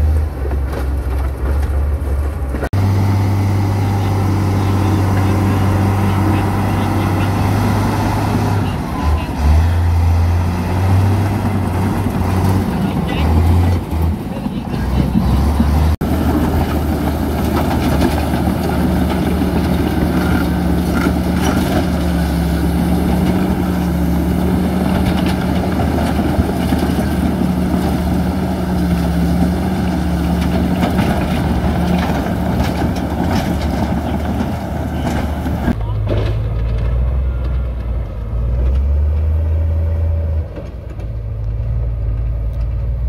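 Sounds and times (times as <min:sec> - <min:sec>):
heavy diesel engine drone: 0:00.0 - 0:43.0.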